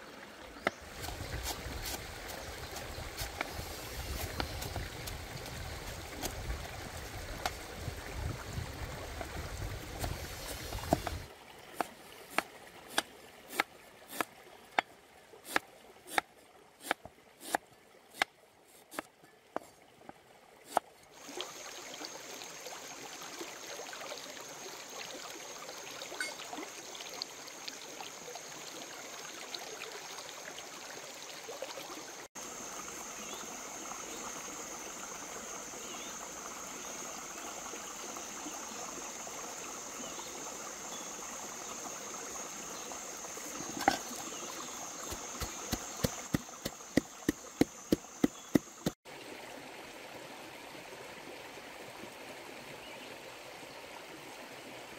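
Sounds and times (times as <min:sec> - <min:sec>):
running stream water: 0:00.0 - 0:54.9.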